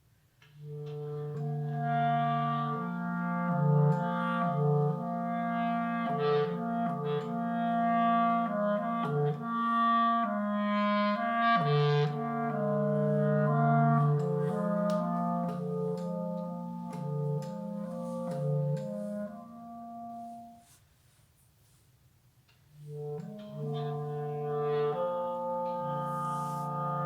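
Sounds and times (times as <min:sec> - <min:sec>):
layered clarinet improvisation: 0:00.4 - 0:20.8, 0:22.8 - 0:27.0.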